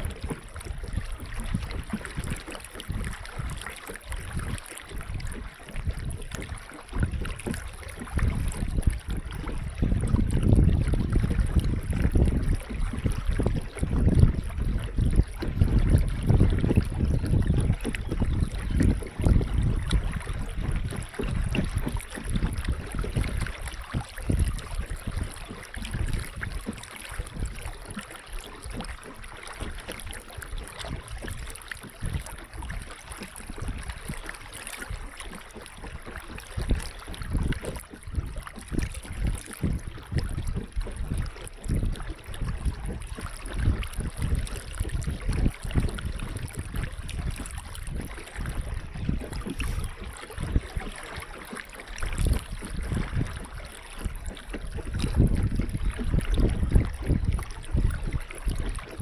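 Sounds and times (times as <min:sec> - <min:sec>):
water splashing against boat: 0:00.0 - 0:59.0
wind buffeting microphone: 0:00.0 - 0:59.0.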